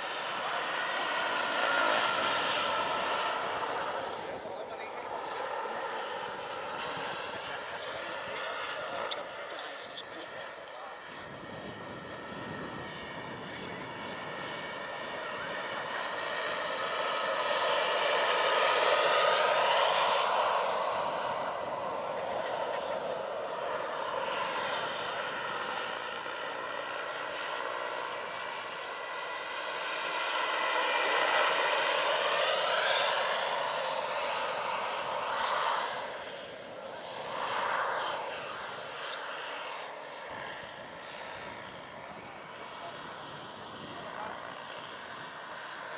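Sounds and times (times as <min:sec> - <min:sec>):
helicopter rotor noise: 0:00.0 - 0:45.9
model helicopter turbine whine: 0:00.0 - 0:45.9.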